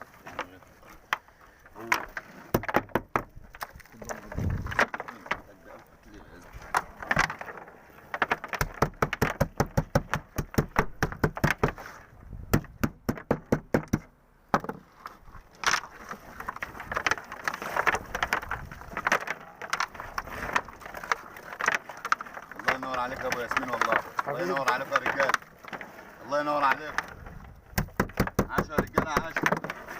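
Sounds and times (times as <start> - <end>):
sharp knocks and clatter: 1.9 - 5.5, 6.7 - 11.8, 12.5 - 14.9, 15.6 - 25.9, 26.6 - 29.9.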